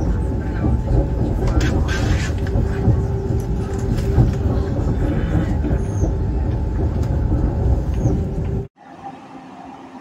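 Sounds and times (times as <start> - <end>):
train wheels rumbling on rails: 0.0 - 8.7.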